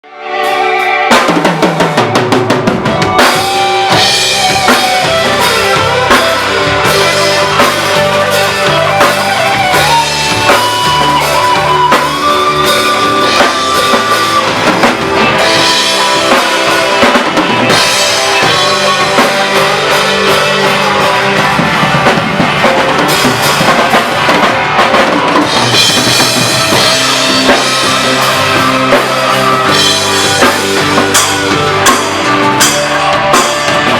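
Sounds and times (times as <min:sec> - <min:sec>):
live rock band playing: 0:00.0 - 0:33.9
drum kit hits: 0:00.5 - 0:33.9.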